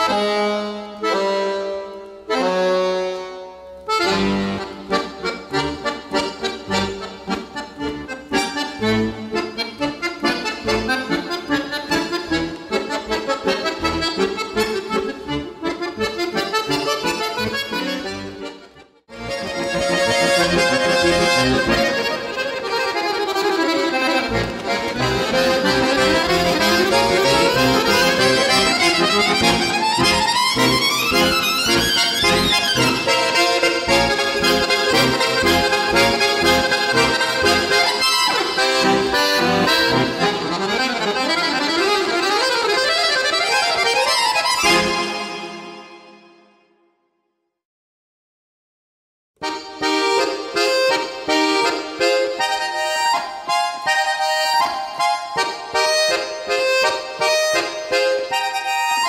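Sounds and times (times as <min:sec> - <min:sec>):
accordions playing folk tune: 0:00.0 - 0:46.8, 0:49.4 - 0:59.0.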